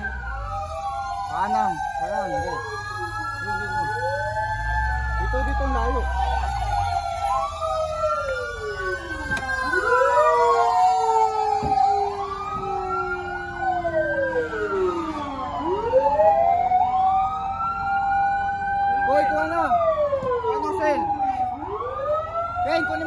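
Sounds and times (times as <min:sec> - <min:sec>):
fire truck sirens wailing: 0:00.0 - 0:23.0.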